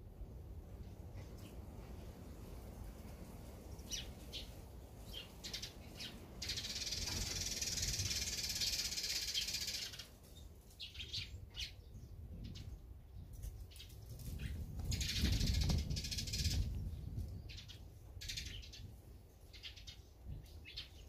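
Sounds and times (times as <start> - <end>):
songbirds chirping and trilling: 0.2 - 21.0.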